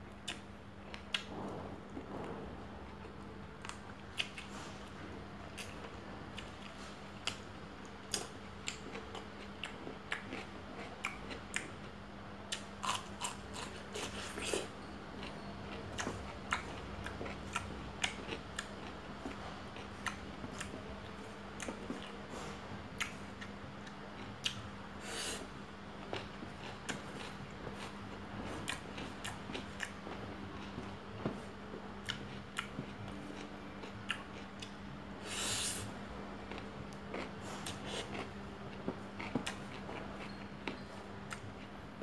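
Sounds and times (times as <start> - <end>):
steady low hum: 0.0 - 42.0
person chewing with wet clicks: 0.1 - 1.3, 3.0 - 4.5, 5.5 - 22.2, 23.0 - 35.0, 36.4 - 41.7.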